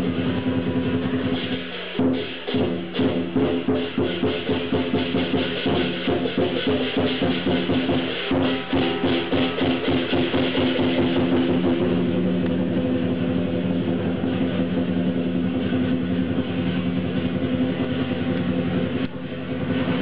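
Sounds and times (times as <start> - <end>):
cymbals clashing: 0.0 - 20.0
drum beating: 0.0 - 20.0
gong: 0.0 - 20.0.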